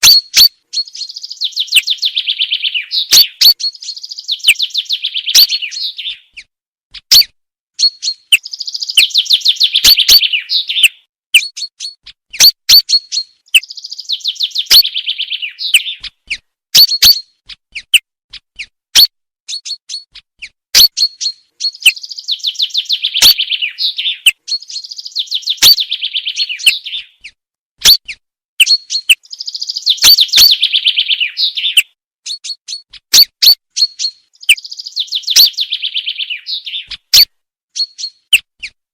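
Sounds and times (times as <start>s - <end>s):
chaffinch sharp calls: 0.0s - 38.8s
chaffinch trilling song: 0.0s - 38.8s.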